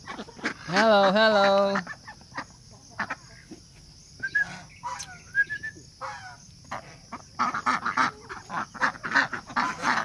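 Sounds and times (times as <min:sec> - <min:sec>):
ducks quacking: 0:00.0 - 0:03.6, 0:04.2 - 0:05.4, 0:06.0 - 0:10.0.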